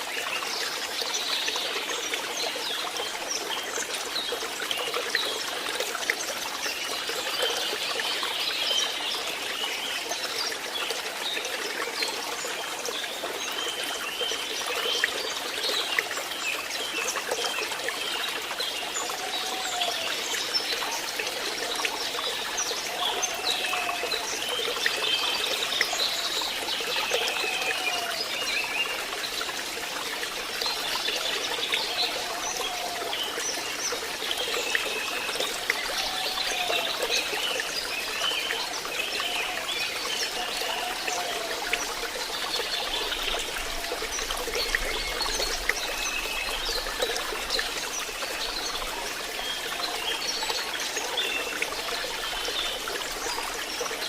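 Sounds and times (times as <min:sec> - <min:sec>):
stream water babbling: 0:00.0 - 0:54.0.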